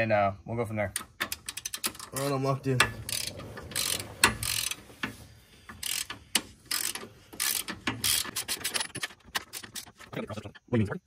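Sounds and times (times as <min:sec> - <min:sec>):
ratchet wrench clicking: 0:01.0 - 0:10.0.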